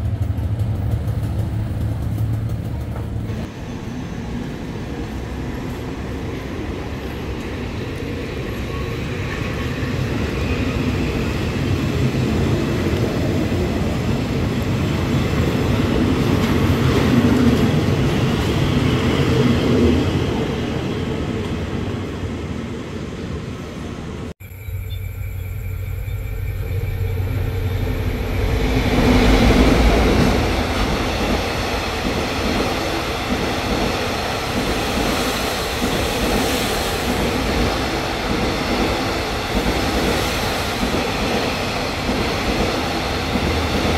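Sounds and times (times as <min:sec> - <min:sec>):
train wheels rumbling on rails: 0:00.0 - 0:22.3, 0:24.9 - 0:43.9.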